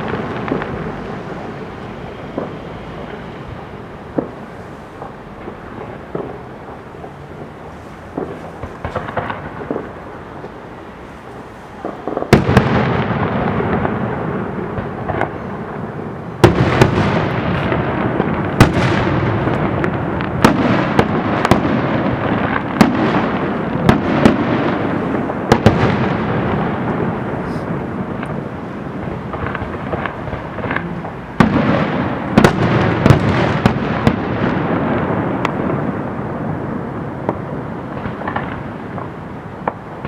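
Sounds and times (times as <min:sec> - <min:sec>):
continuous fireworks bursts: 0:00.0 - 0:40.0
fireworks sharp bangs: 0:00.0 - 0:40.0.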